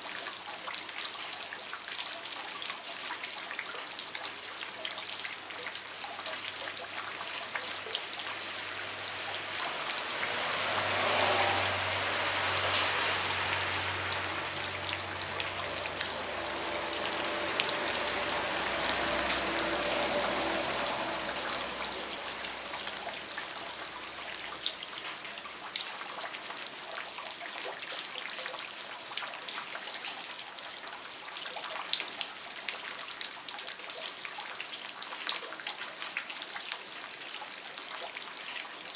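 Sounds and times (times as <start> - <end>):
rain falling: 0.0 - 34.2.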